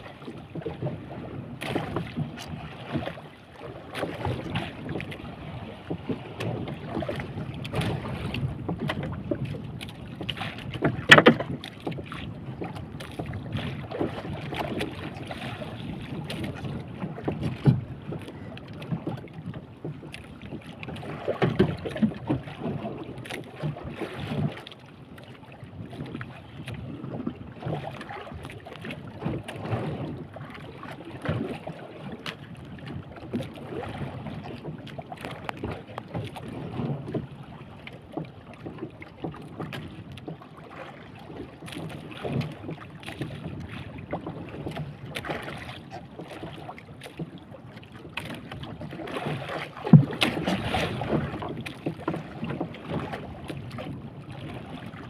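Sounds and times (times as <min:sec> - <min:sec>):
water lapping against boat hull: 0:00.0 - 0:55.0.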